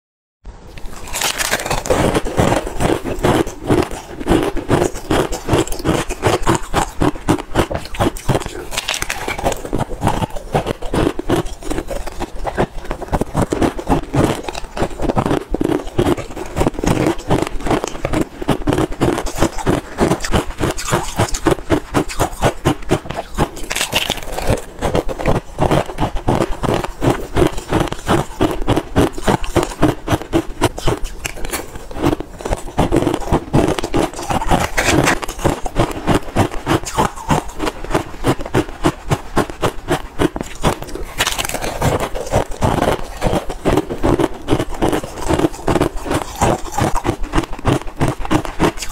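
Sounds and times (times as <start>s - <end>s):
crunching of ice being chewed: 0.7s - 48.9s
metal spoon scraping plastic pot: 0.8s - 48.9s.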